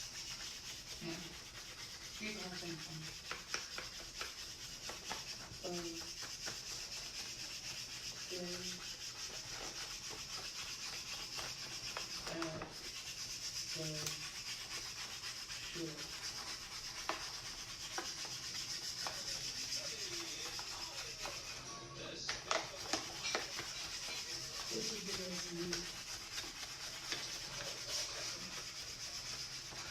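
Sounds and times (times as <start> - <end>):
vinyl wrap rubbing hiss: 0.0 - 21.8, 22.5 - 29.9.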